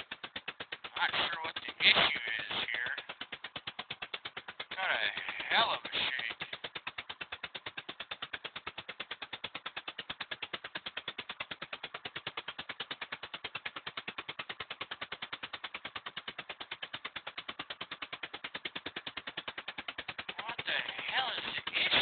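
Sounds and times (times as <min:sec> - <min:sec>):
car engine running roughly: 0:00.0 - 0:22.0
exhaust chuffing: 0:00.0 - 0:22.0.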